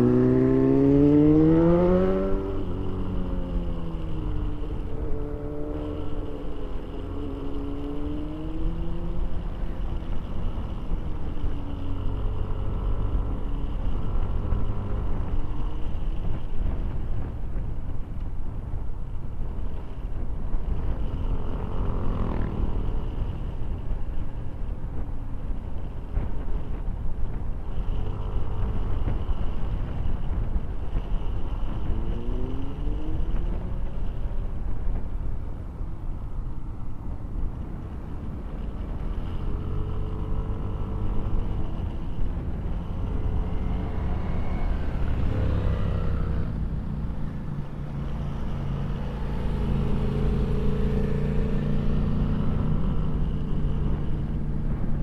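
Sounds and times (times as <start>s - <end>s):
motorcycle engine and road rumble: 0.0s - 55.0s.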